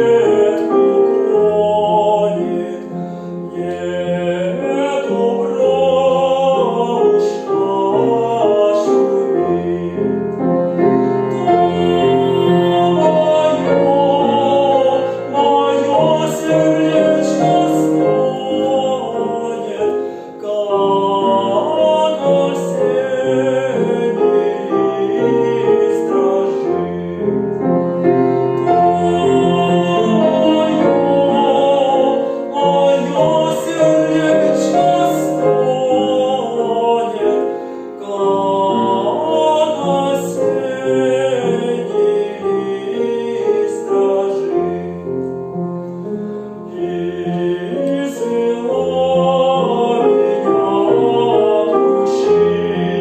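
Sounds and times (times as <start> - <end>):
man singing folk song: 0.0 - 10.1, 11.1 - 27.3, 28.6 - 44.9, 46.7 - 53.0
piano accompaniment: 0.0 - 53.0.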